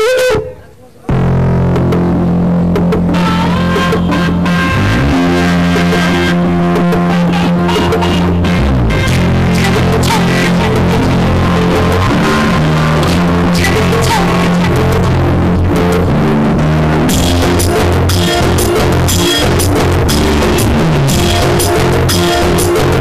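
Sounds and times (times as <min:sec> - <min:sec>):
loud rock music: 0:01.1 - 0:23.0.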